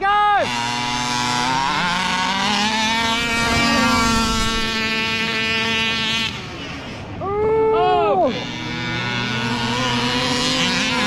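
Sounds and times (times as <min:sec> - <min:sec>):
small two-stroke engines racing: 0:00.0 - 0:11.0.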